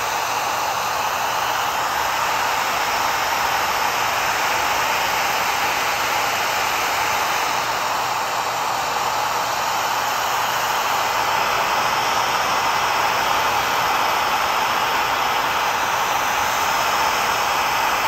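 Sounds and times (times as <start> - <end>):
hot-air blower hissing: 0.0 - 18.0.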